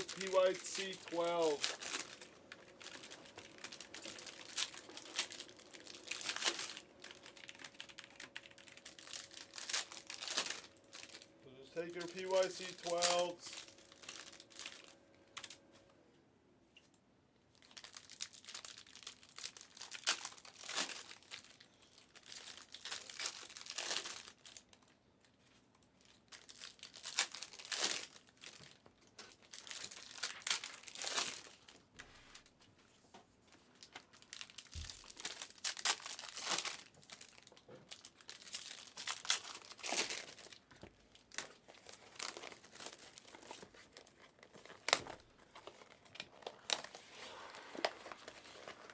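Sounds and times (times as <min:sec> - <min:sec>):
card pack wrappers tearing: 0:00.0 - 0:15.6, 0:17.6 - 0:24.8, 0:26.0 - 0:31.7, 0:33.8 - 0:48.9.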